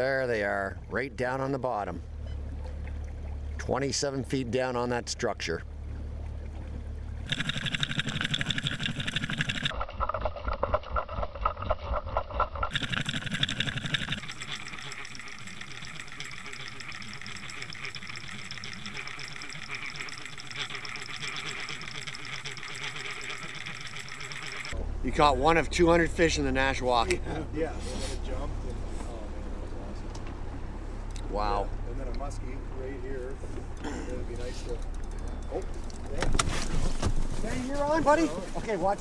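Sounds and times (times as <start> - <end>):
underwater boat motor hum: 0.0 - 39.0.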